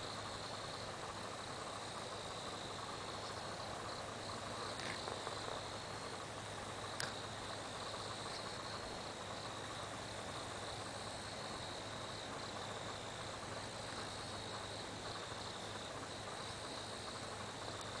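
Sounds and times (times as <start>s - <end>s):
insects trilling: 0.0s - 18.0s
low hiss and hum: 0.0s - 18.0s.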